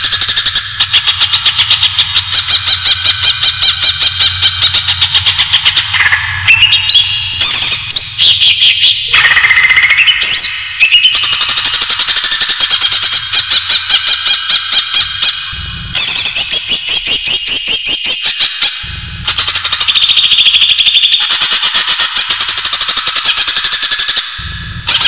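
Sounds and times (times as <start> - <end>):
bird chirping and whistling: 0.0 - 25.0.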